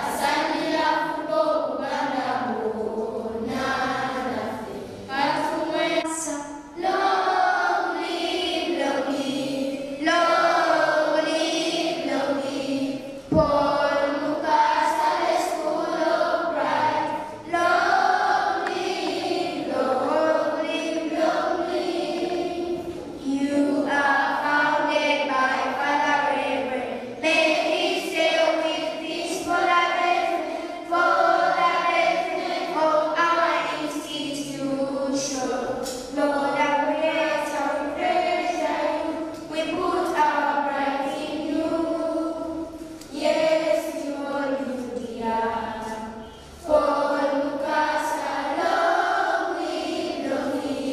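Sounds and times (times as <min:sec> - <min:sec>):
choir singing: 0:00.0 - 0:50.9.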